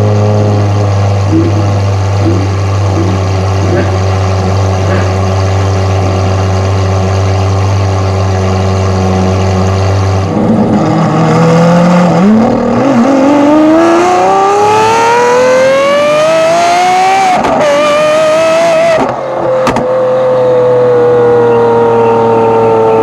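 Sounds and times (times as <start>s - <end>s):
sports car engine accelerating: 0.0s - 23.0s.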